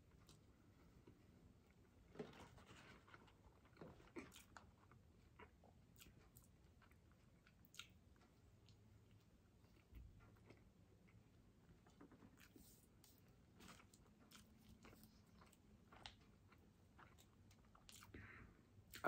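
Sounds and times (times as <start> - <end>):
person chewing food: 2.6 - 19.0.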